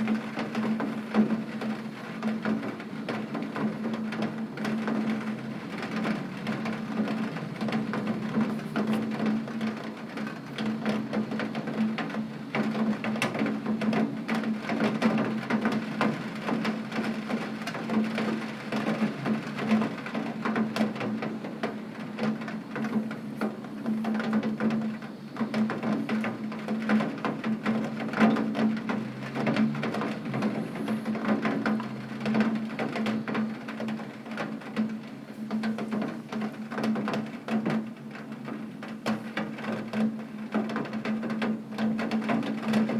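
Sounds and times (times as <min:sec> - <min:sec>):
rain on window glass: 0:00.0 - 0:42.9.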